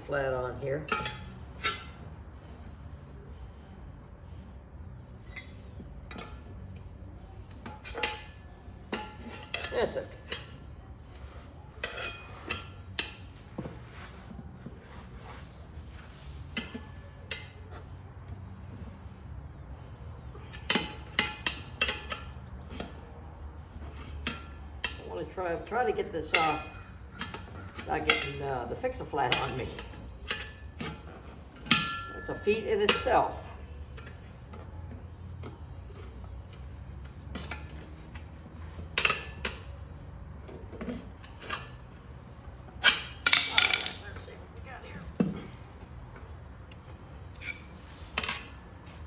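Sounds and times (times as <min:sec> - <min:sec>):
steel tools clanking on wheel rim: 0:00.0 - 0:44.3, 0:45.0 - 0:49.0.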